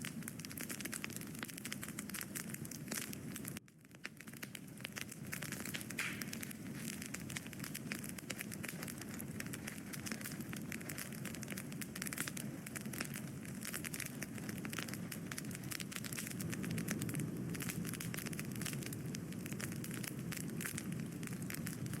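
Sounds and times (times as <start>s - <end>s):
flames burning: 0.0s - 22.0s
wood fire crackling and popping: 0.0s - 22.0s.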